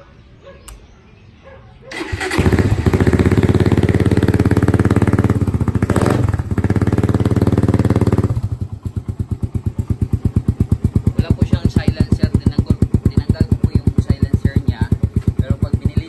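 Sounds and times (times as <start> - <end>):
motorcycle engine revving and idling: 1.9 - 16.0.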